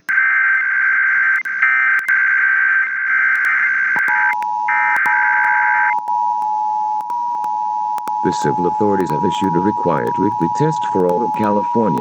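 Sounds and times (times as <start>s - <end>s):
warbling digital data tones: 0.0s - 12.0s.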